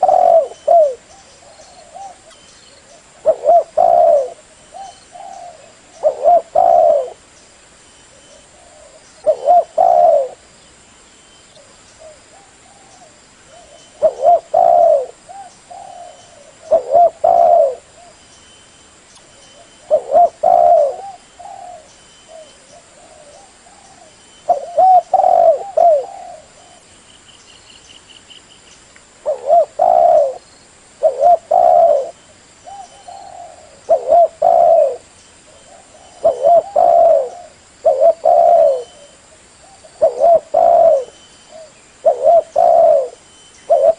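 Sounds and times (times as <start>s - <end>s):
dove cooing: 0.0s - 7.2s, 8.1s - 10.5s, 12.0s - 18.2s, 19.5s - 26.9s, 29.2s - 30.4s, 31.0s - 43.9s.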